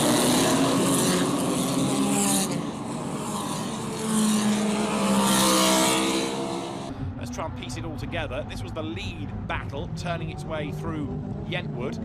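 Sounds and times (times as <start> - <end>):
racing car engines at speed: 0.0 - 12.0.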